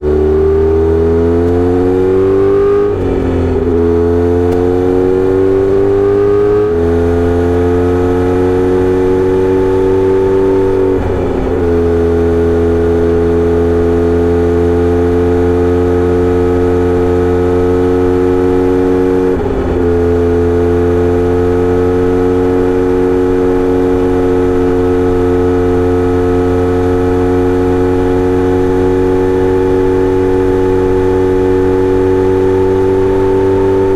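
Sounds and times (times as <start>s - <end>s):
motorcycle exhaust revving: 0.0s - 33.9s.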